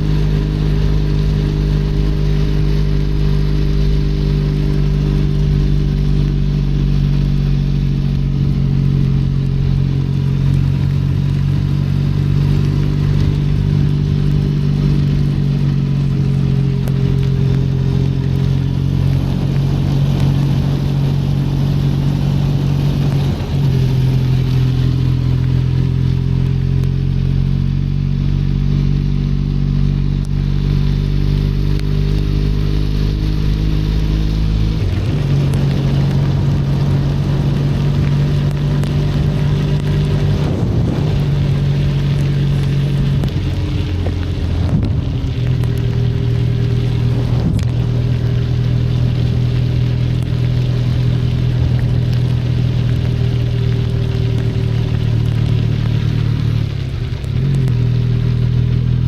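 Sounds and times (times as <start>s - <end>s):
motorcycle engine running: 0.0s - 59.0s
rain hissing: 0.0s - 59.0s.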